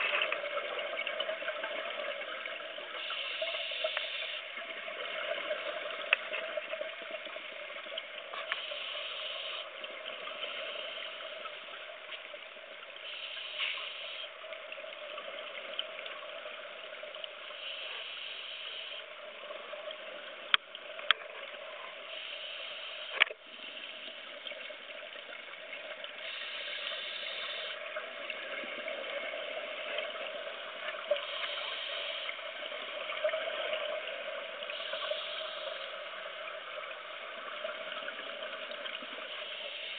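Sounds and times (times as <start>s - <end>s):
steady underwater hiss: 0.0s - 39.9s.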